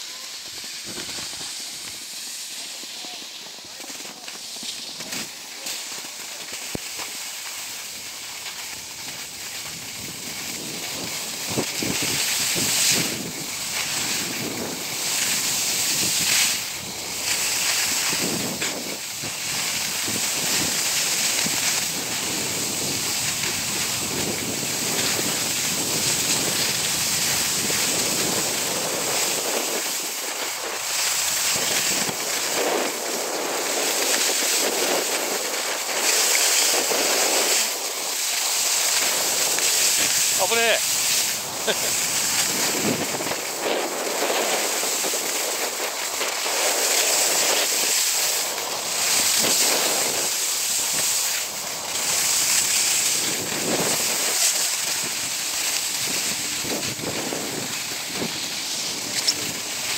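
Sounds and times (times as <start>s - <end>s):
skis scraping packed snow: 0.0s - 59.9s
wind rushing over microphone: 9.6s - 59.9s.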